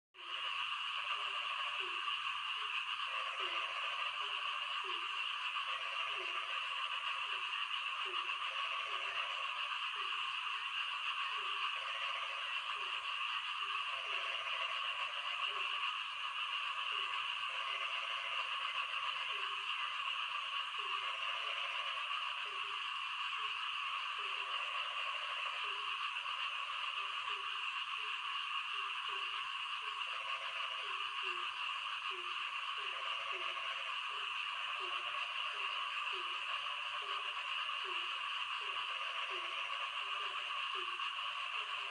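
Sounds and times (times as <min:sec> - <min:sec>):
frogs croaking: 0:00.2 - 0:41.9
rain hiss: 0:00.2 - 0:41.9.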